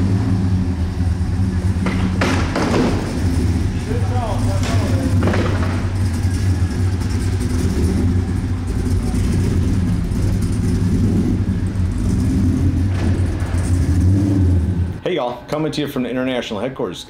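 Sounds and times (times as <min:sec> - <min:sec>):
engine running with deep note: 0:00.0 - 0:15.0.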